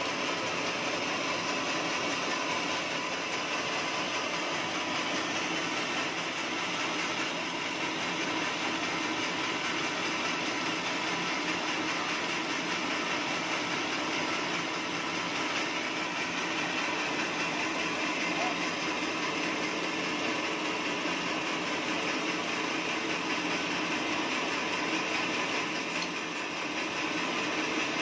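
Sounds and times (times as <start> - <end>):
band sawmill running: 0.0 - 28.0.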